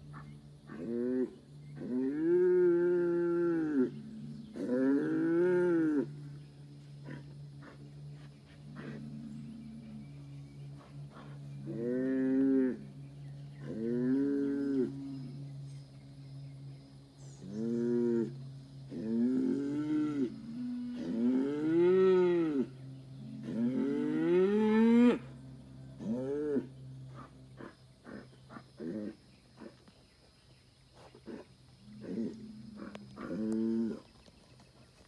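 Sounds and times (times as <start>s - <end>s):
bull bellowing: 0.0s - 15.4s, 17.3s - 29.8s, 31.2s - 34.1s.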